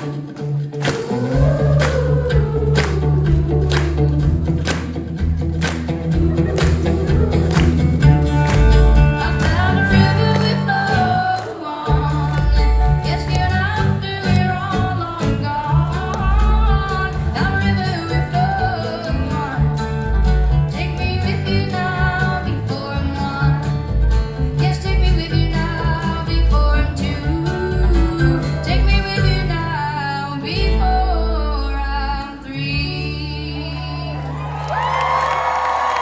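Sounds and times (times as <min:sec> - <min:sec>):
woman singing: 0:00.0 - 0:04.5, 0:09.0 - 0:34.5
strummed acoustic guitar: 0:00.0 - 0:34.0
pulsing bass: 0:00.0 - 0:34.9.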